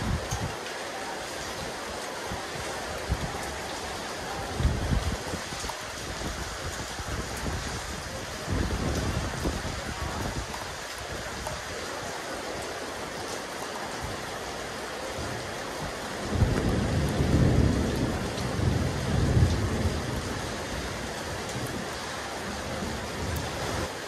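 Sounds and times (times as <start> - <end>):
rain falling on a rooftop: 0.0 - 24.0.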